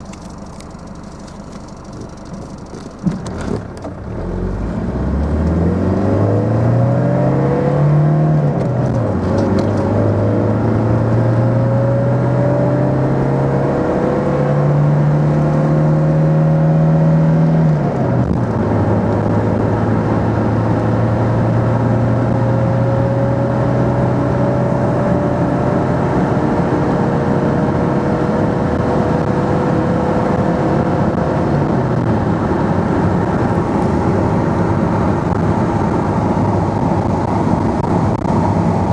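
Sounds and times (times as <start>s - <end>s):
diesel engine accelerating: 0.0s - 38.9s.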